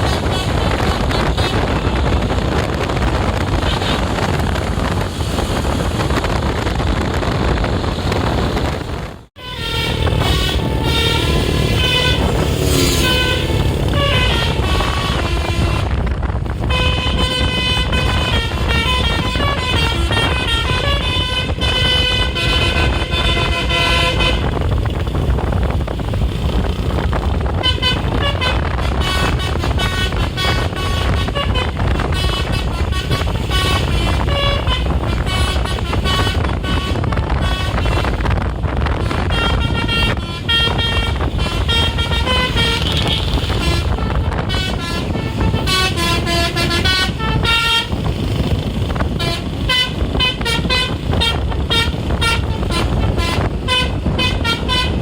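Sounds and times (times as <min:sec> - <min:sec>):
multi-note bus horn tune: 0:00.0 - 0:05.0, 0:09.4 - 0:25.3, 0:27.3 - 0:55.0
bus engine rumble: 0:00.0 - 0:55.0
traffic noise: 0:00.0 - 0:55.0.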